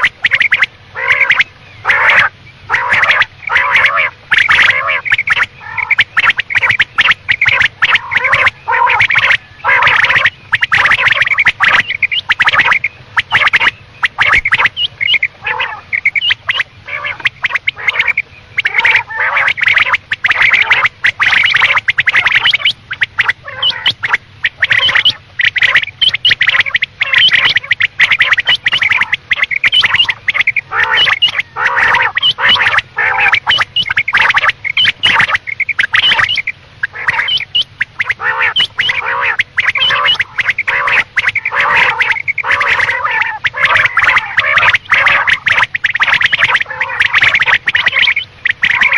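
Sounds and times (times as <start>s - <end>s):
quail calling: 0.0s - 48.9s.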